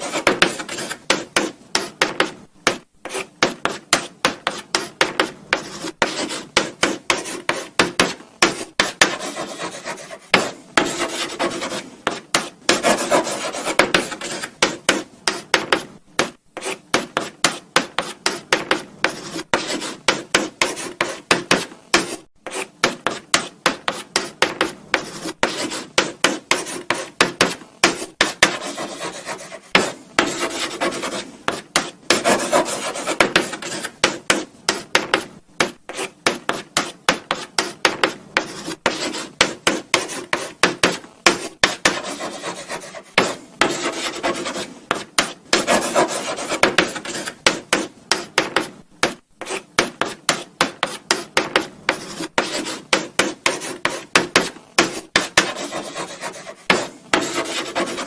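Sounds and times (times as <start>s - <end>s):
chalk writing on blackboard: 0.0s - 58.0s.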